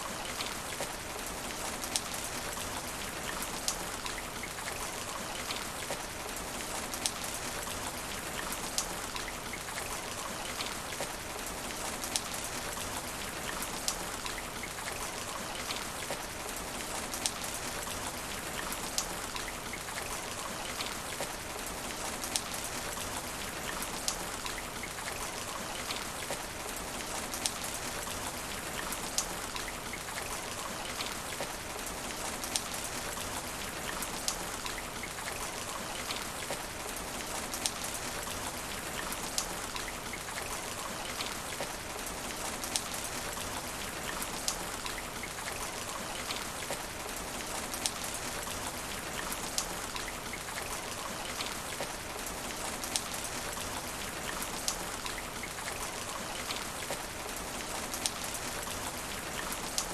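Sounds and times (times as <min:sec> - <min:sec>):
rain falling on asphalt: 0:00.0 - 0:59.9
raindrops ticking close by: 0:00.0 - 0:59.9.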